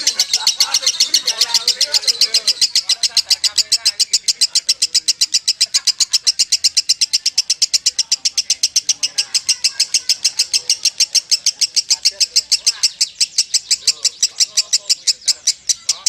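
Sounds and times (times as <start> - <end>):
lovebird chattering song: 0.0 - 16.0.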